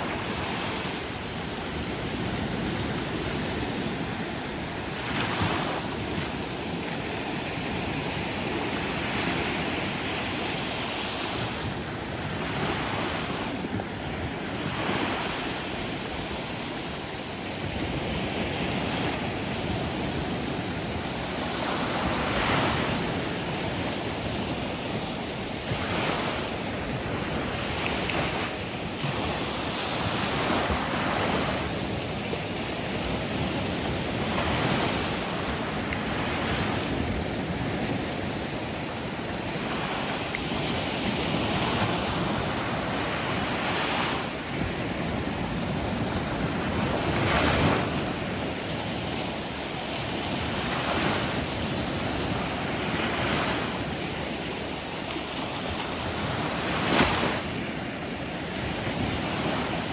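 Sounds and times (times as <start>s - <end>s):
sea waves breaking: 0.0s - 59.9s
wind rumbling on microphone: 0.0s - 59.9s.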